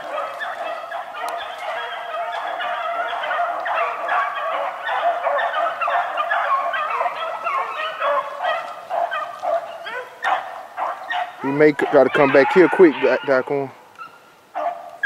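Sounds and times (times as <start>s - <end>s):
pack of dogs baying: 0.0s - 15.0s.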